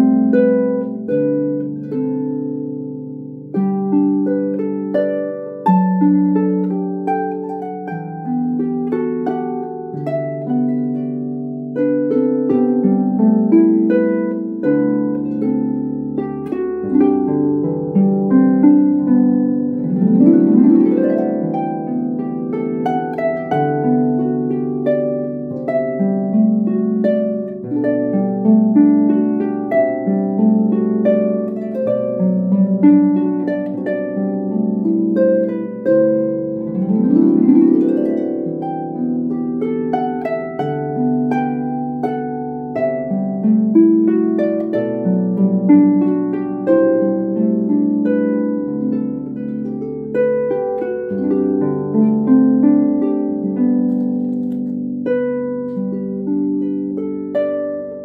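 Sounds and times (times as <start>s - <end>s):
harp playing: 0.0s - 58.0s.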